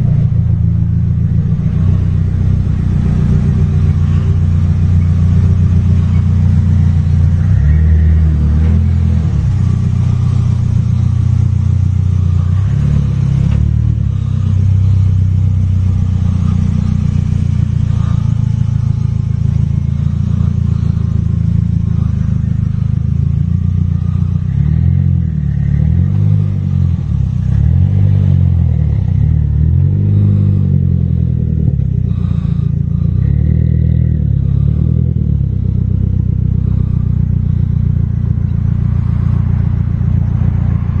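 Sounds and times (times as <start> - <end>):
car engine revving and idling: 0.0 - 41.0.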